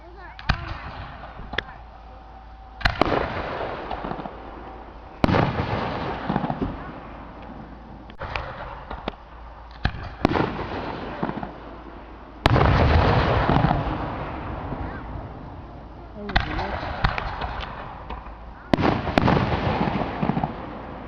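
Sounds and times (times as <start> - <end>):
fireworks shells booming with echo: 0.0 - 21.0.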